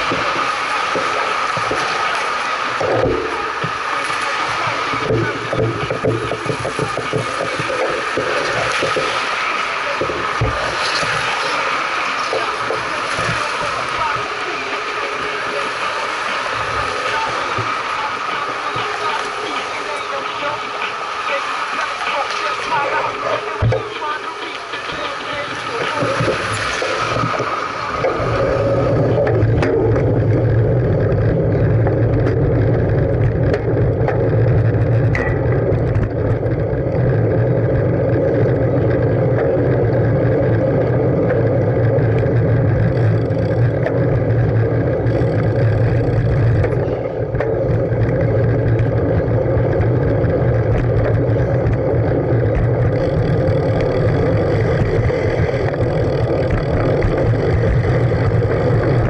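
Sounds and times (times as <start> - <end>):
bicycle road noise: 0.0 - 59.0
wind rumble on microphone: 0.0 - 59.0.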